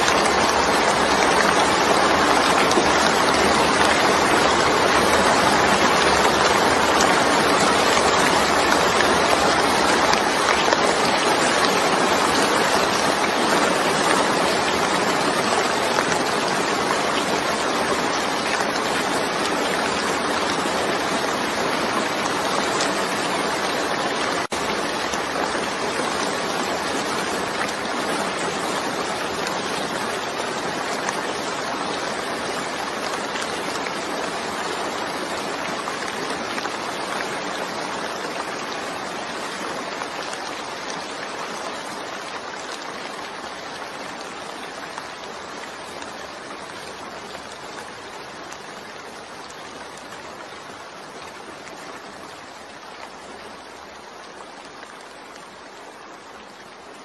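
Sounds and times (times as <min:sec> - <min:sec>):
rain on puddled surface: 0:00.0 - 0:57.0.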